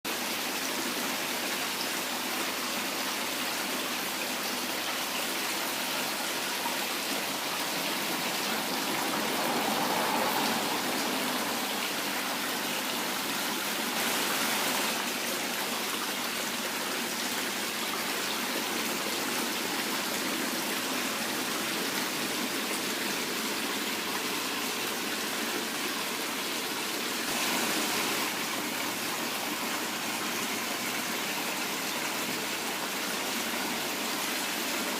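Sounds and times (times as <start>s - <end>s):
waterfall rushing and splashing: 0.0s - 34.9s.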